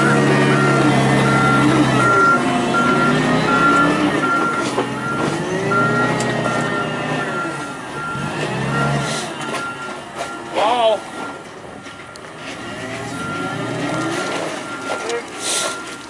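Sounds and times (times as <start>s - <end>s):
reversing alarm beeps: 0.0s - 12.2s, 13.0s - 16.0s
forklift engine revving: 0.0s - 16.0s.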